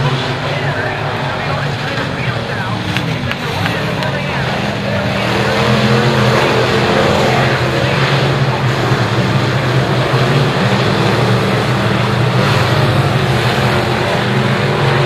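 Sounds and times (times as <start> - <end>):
race car engines running low revs: 0.0 - 15.0.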